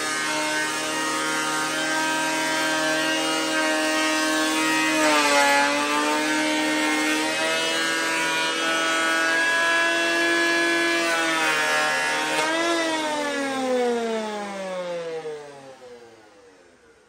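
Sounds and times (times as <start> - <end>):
planer motor whine: 0.0 - 17.0.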